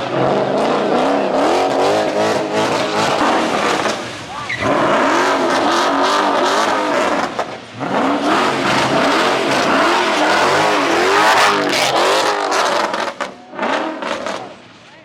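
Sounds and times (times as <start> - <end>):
car engine revving hard: 0.0 - 14.6.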